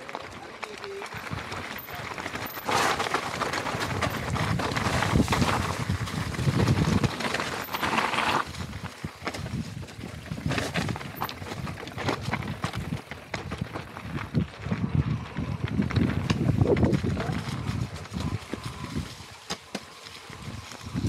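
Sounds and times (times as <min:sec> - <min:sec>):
bike clattering: 0:00.0 - 0:14.4, 0:15.7 - 0:21.0
bike tyres crunching over gravel: 0:00.0 - 0:21.0.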